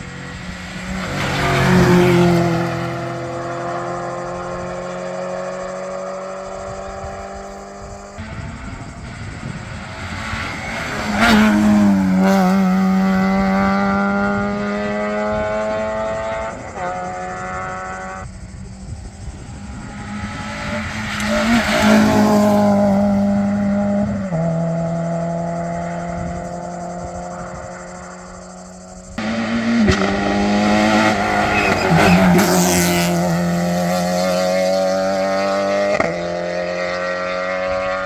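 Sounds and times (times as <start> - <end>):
rally cars passing by: 0.0 - 38.0.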